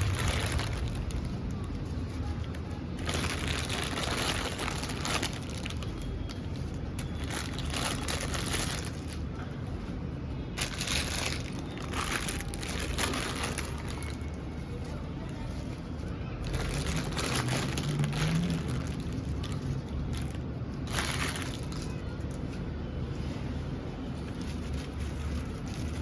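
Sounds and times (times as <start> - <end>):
plastic packaging crinkling: 0.0 - 9.8, 10.5 - 22.6, 24.0 - 26.0
low background rumble: 0.0 - 26.0.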